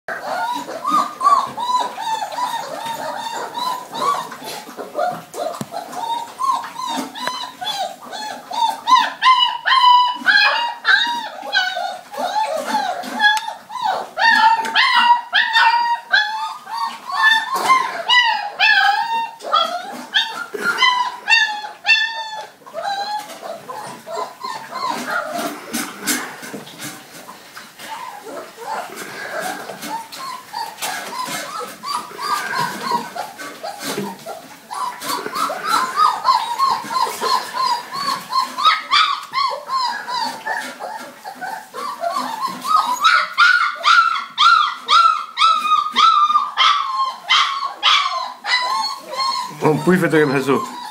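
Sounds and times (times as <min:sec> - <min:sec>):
puppies whining and yelping: 0:00.1 - 0:50.9.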